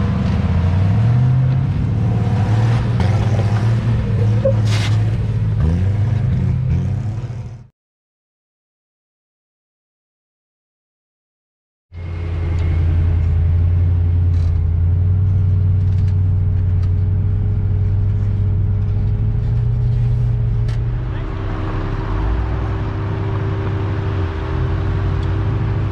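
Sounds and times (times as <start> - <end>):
engine running: 0.0 - 7.7, 12.0 - 25.9.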